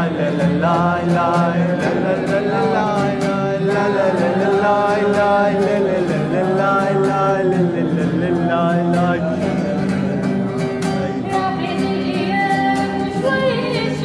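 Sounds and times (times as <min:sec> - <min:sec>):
guitar accompaniment: 0:00.0 - 0:14.0.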